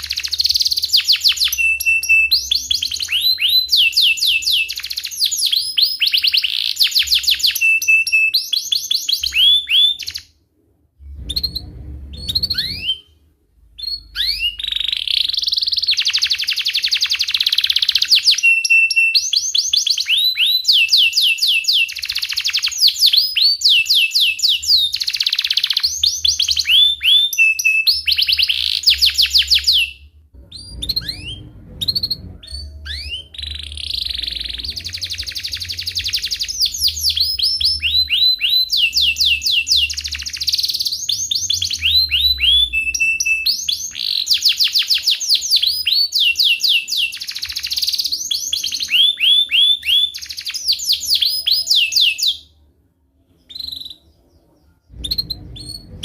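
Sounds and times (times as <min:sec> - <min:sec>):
canary singing: 0:00.0 - 0:10.4, 0:11.1 - 0:56.0.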